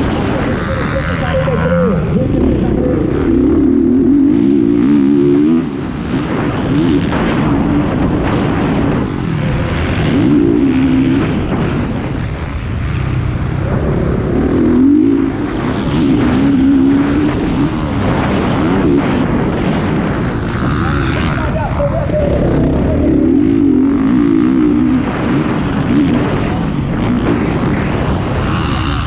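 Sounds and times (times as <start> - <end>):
motocross bike engine revving: 0.0 - 29.0
wind noise on microphone: 0.0 - 29.0.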